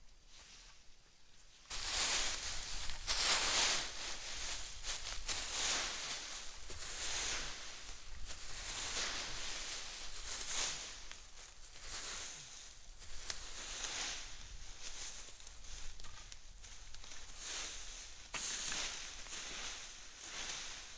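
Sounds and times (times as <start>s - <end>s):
dry leaves rustling: 1.6s - 20.9s.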